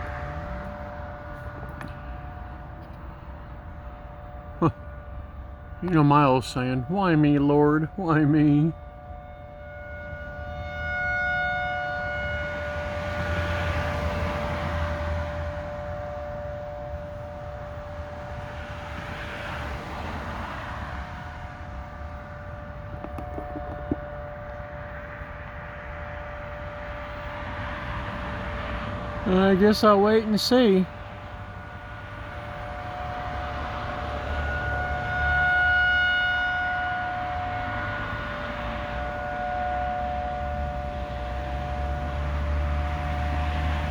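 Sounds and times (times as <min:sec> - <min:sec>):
warning siren steady tone: 0:00.0 - 0:43.9.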